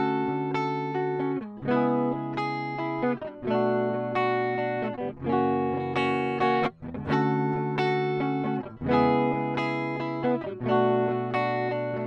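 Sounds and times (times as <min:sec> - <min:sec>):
electric guitar chords ringing: 0:00.0 - 0:12.0.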